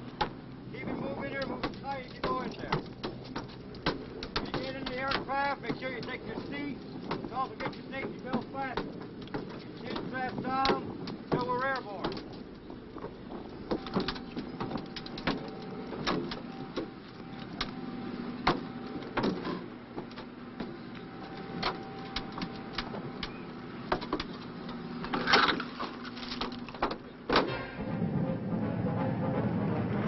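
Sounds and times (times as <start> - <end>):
gear clanking and knocking: 0.0 - 28.0
faint steady hum: 0.0 - 30.0.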